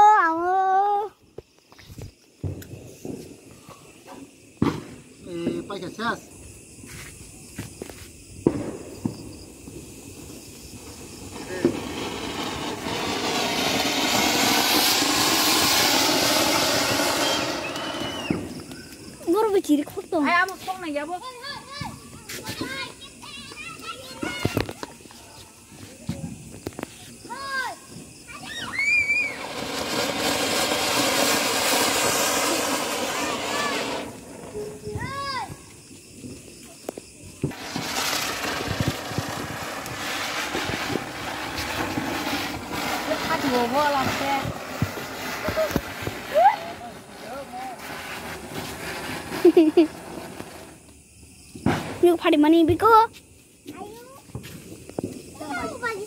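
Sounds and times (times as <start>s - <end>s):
firework fountain hissing: 0.0s - 56.0s.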